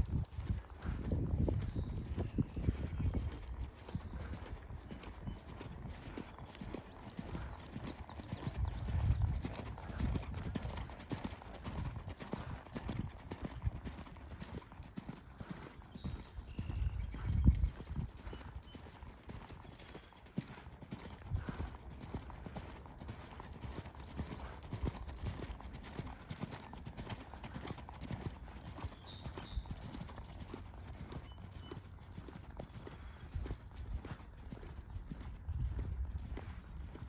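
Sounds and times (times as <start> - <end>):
horse hoofbeats: 0.0 - 37.0.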